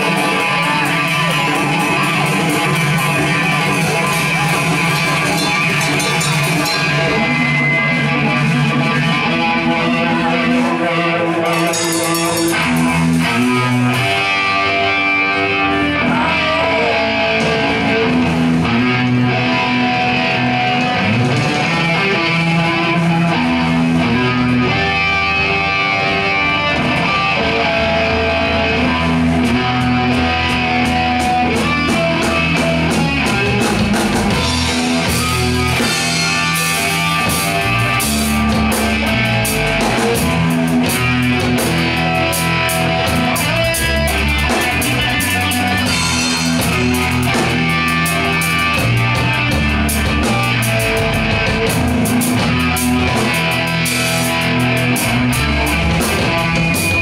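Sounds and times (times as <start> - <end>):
drum kit with cymbals: 0.0 - 57.0
electric guitars: 0.0 - 57.0.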